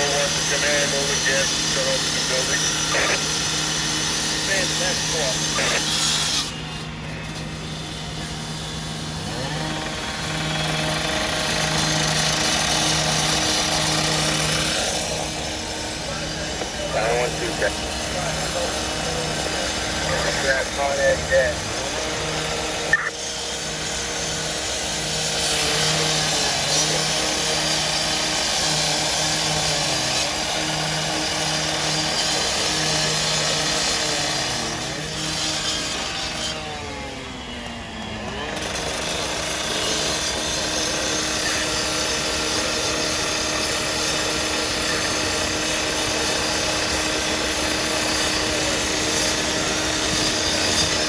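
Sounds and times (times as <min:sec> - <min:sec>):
rotary saw revving and cutting: 0:00.0 - 0:51.0
steady engine hum: 0:00.0 - 0:51.0.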